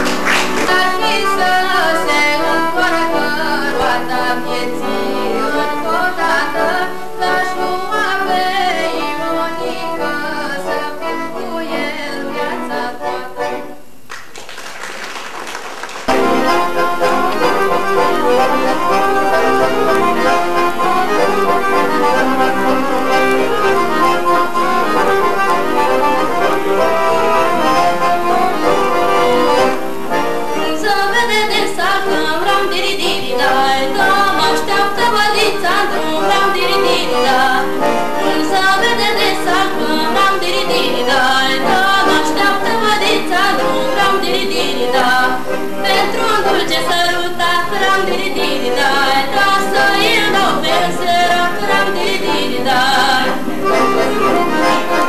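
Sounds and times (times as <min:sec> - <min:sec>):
accordion folk tune: 0:00.0 - 0:14.1, 0:15.9 - 0:55.0.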